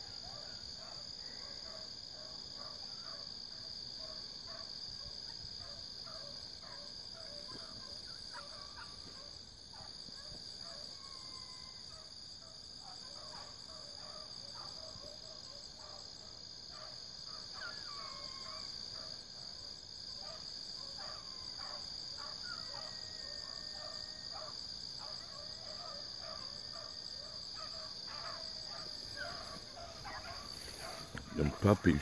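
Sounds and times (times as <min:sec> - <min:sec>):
crickets chirping: 0:00.0 - 0:32.0
hounds baying and barking: 0:00.0 - 0:32.0.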